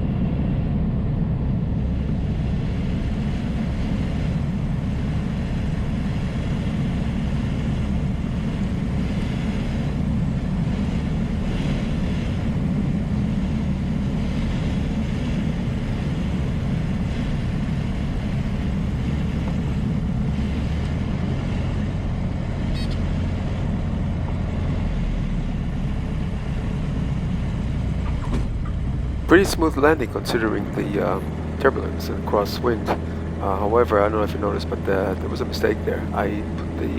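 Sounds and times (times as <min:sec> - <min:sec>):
aircraft engine and propeller droning: 0:00.0 - 0:36.9.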